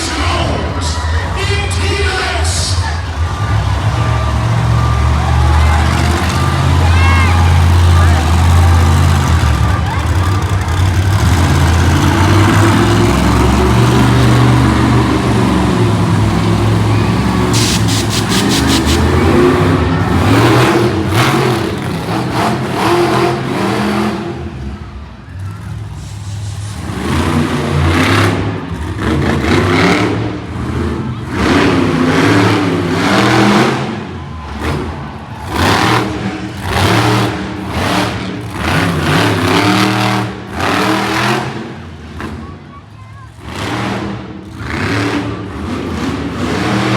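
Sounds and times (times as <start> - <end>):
monster truck engines revving: 0.0 - 46.9.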